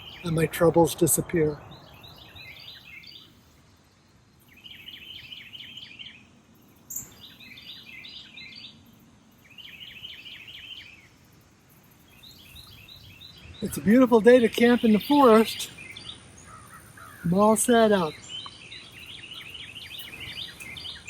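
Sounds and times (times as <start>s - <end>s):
faint outdoor hiss: 0.0s - 21.0s
songbird singing repeated phrase: 0.0s - 21.0s.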